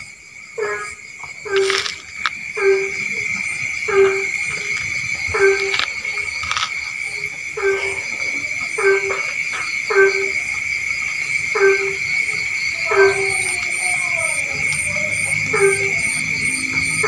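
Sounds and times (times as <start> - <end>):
frogs croaking: 0.0 - 17.0
insects chirring: 0.0 - 17.0.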